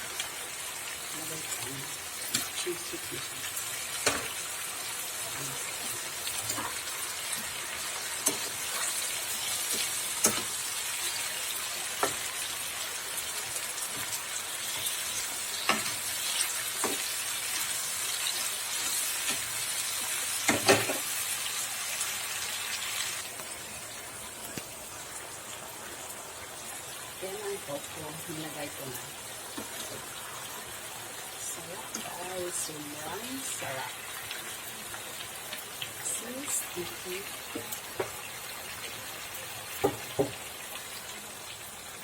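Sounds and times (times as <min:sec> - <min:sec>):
stir-fry sizzling in a pan: 0:00.0 - 0:42.0.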